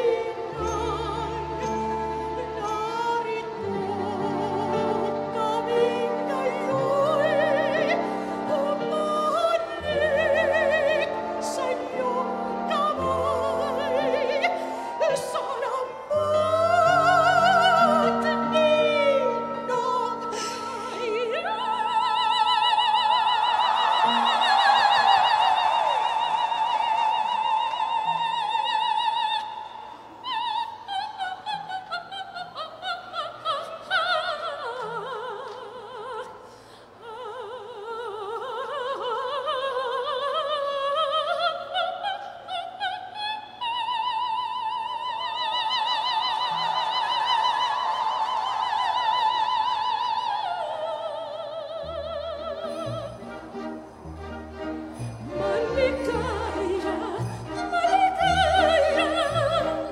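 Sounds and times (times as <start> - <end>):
operatic soprano singing: 0.0 - 59.9.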